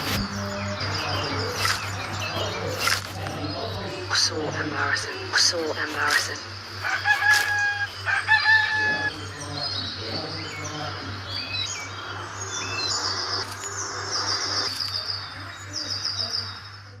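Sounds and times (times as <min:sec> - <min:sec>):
pitch-shifted birds chirping: 0:00.0 - 0:17.0
steady low hum: 0:00.0 - 0:17.0.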